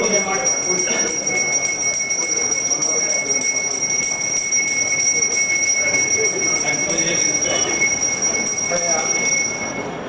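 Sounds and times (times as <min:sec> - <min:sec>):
murmur of people talking: 0:00.0 - 0:10.0.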